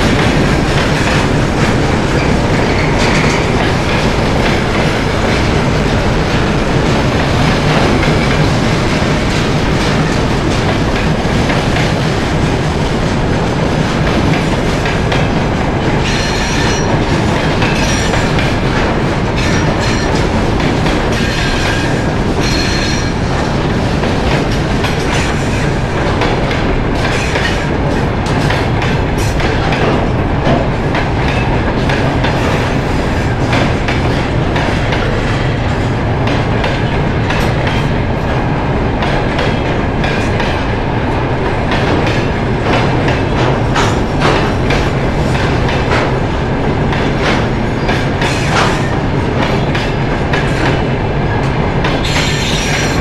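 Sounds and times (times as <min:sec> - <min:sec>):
train rumbling along track: 0:00.0 - 0:53.0.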